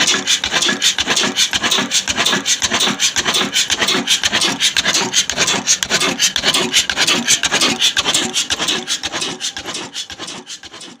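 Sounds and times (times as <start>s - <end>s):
diesel engine running saw: 0.0s - 11.0s.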